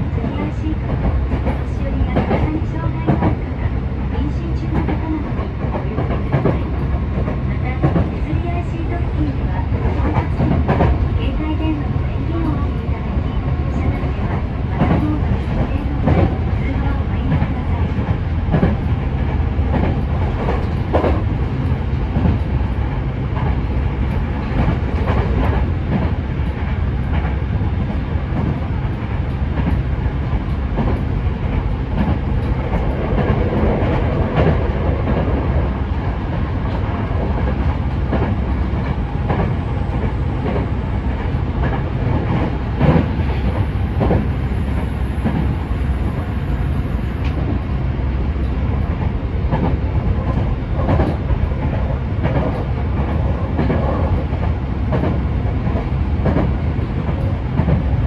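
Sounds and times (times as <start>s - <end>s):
clickety-clack of rail joints: 0.0s - 58.0s
train wheels rumbling: 0.0s - 58.0s.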